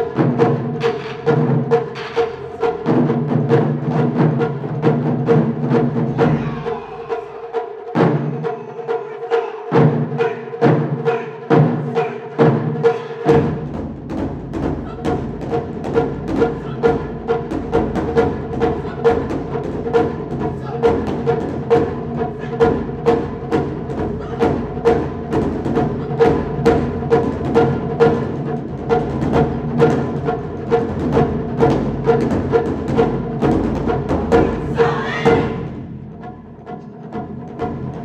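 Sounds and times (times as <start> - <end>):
deep drum: 0.0 - 8.6, 9.7 - 38.0
taiko drums driving rhythm: 0.0 - 38.0.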